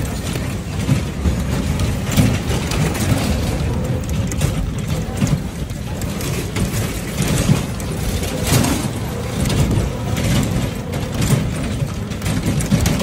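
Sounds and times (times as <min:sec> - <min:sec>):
rickshaw rattling and clicking: 0:00.0 - 0:13.0.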